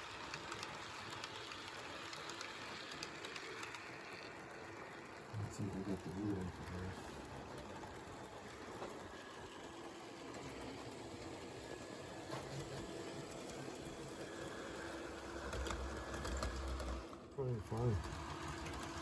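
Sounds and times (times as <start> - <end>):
model train wheel noise: 0.0 - 19.0
small electric motor hum: 0.0 - 19.0.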